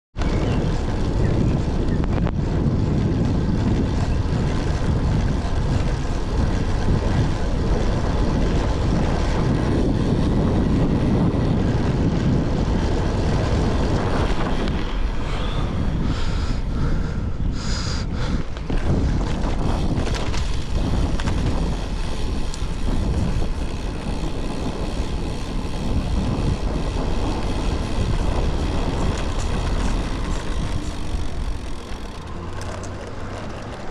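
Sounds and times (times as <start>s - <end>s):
wind rumble on microphone: 0.2s - 33.9s.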